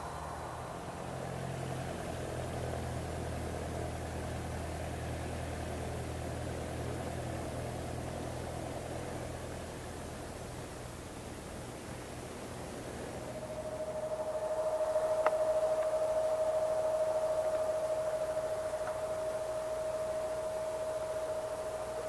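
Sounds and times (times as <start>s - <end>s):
engine idling with hiss: 0.0s - 22.0s.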